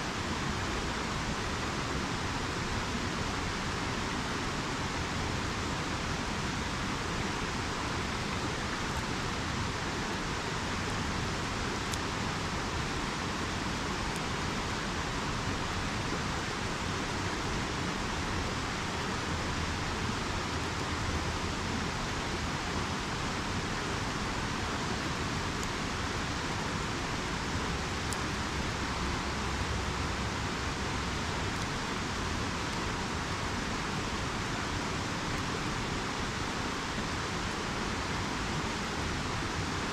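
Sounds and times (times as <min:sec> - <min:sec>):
faint campfire crackles: 0:00.0 - 0:39.9
river rushing: 0:00.0 - 0:39.9.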